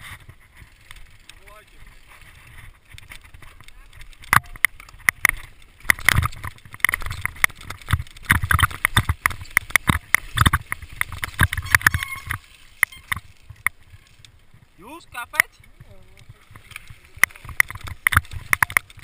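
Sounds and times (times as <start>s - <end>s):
mountain bike clattering over rocks: 0.0s - 19.0s.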